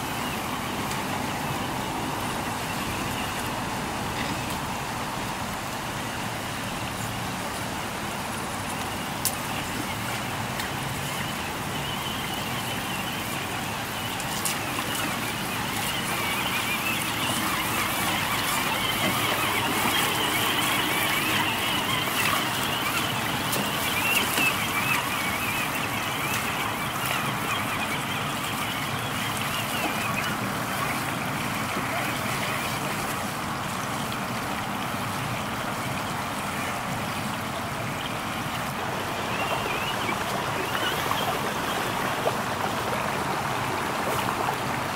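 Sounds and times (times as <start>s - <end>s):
water babbling over rocks: 0.0s - 44.9s.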